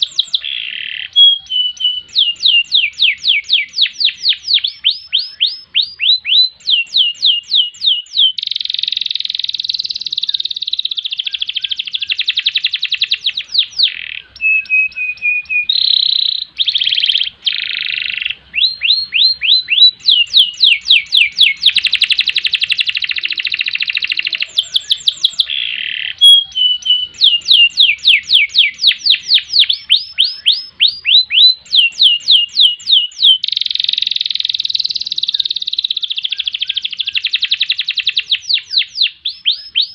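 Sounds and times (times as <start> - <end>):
canary singing with rolling trills: 0.0 - 39.9.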